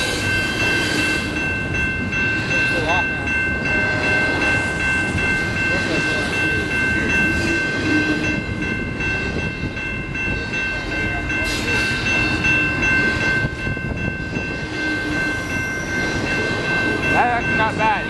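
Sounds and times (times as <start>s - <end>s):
freight train wheels rumbling on rail: 0.0s - 18.0s.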